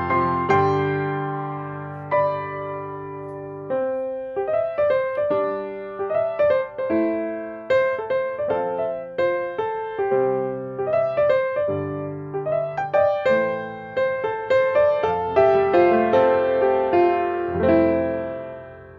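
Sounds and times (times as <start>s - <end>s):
soft piano melody: 0.0s - 18.9s.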